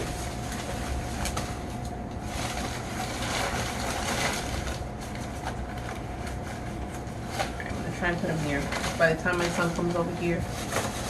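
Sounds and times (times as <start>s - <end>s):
packing peanuts rustling: 0.0s - 11.0s.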